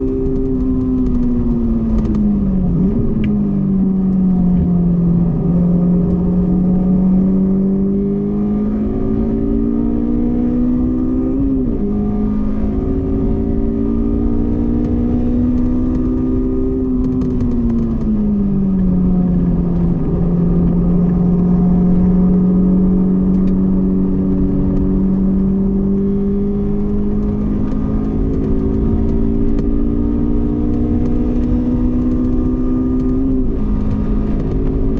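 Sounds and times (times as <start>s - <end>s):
car engine running hard: 0.0s - 34.9s.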